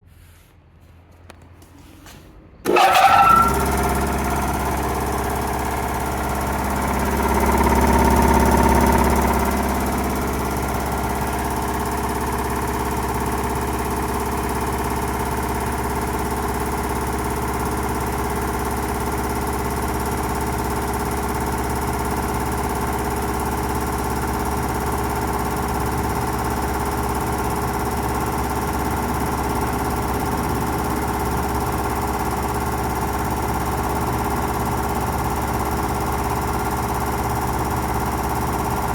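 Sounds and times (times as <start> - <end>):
air compressor running: 2.6 - 38.9.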